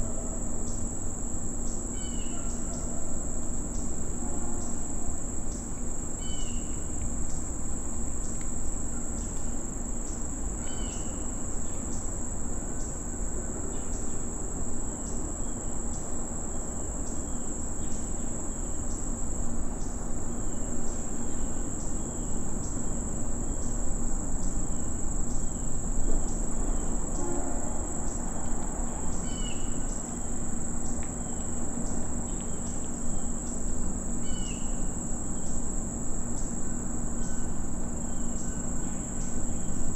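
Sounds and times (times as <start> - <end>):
crickets and night insects chirping: 0.0 - 39.9.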